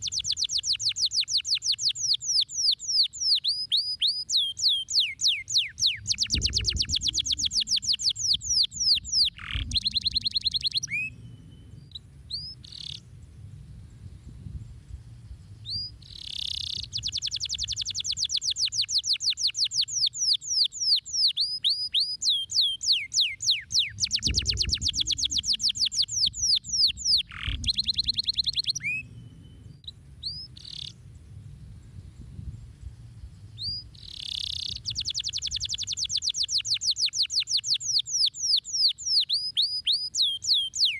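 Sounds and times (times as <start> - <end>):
canary singing trills: 0.0 - 13.1, 15.6 - 31.0, 33.4 - 40.9.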